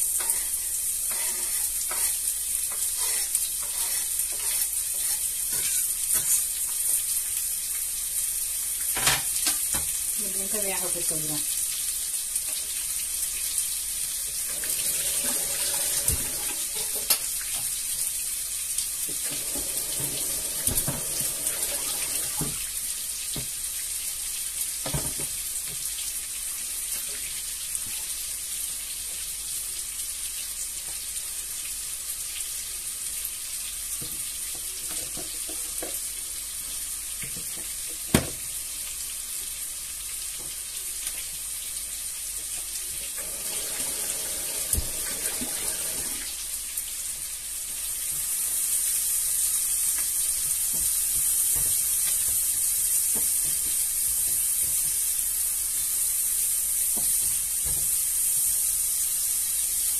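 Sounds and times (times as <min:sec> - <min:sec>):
onion frying in oil: 0:00.0 - 0:59.9.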